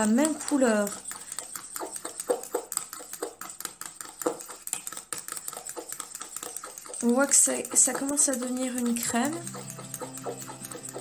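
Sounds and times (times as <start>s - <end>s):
spatula scraping metal bowl: 0.0s - 11.0s.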